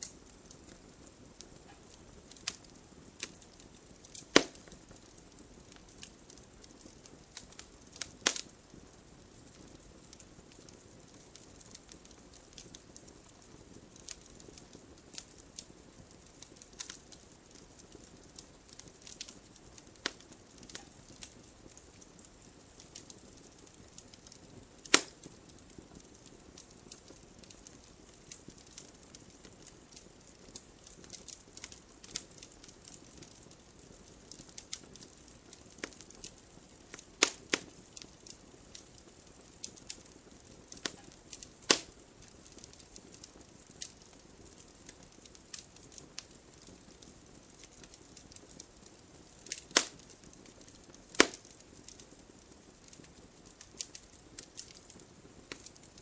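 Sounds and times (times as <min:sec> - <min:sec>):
loud fire cracks: 0:00.0 - 0:56.0
wood fire crackling: 0:00.0 - 0:56.0.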